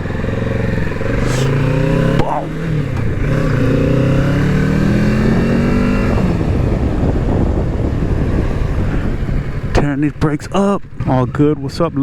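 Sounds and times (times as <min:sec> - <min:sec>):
motorcycle engine accelerating: 0:00.0 - 0:12.0
wind and road noise: 0:00.0 - 0:12.0.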